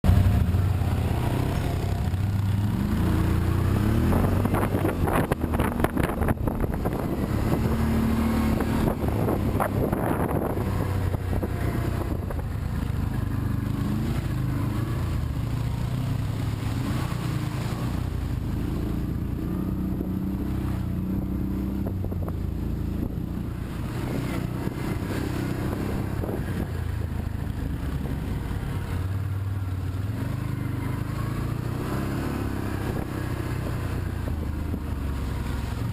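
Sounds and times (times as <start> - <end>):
vehicle engine running: 0.0 - 35.9.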